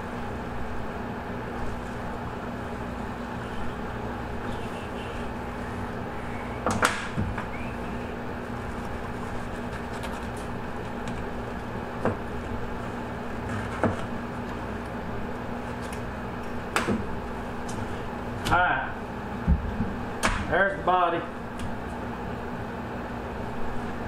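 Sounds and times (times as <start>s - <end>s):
room hum: 0.0s - 24.0s.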